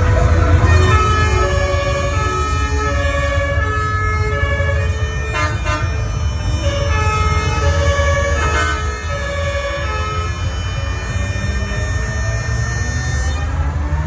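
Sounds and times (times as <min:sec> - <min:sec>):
low engine rumble: 0:00.0 - 0:14.0
two-tone siren: 0:00.0 - 0:14.0.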